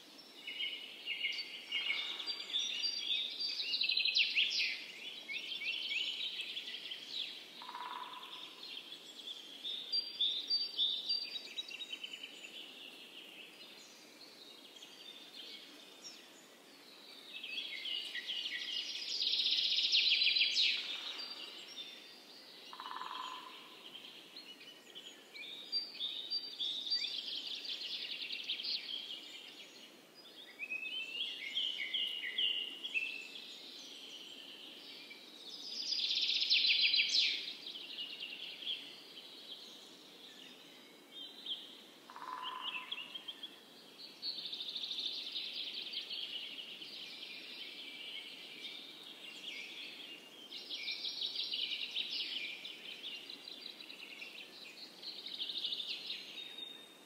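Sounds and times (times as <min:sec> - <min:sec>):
background hiss: 0:00.0 - 0:57.0
songbirds chirping and trilling: 0:00.0 - 0:57.0.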